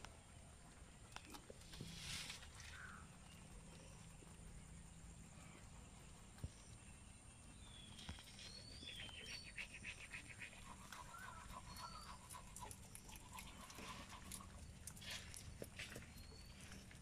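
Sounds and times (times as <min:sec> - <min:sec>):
rabbits nibbling and chewing: 0:00.0 - 0:17.0
small crunching ticks: 0:00.0 - 0:17.0.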